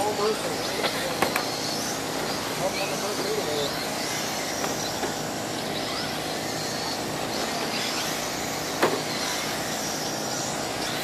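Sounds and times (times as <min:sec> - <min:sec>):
rc car motors whining: 0:00.0 - 0:11.0.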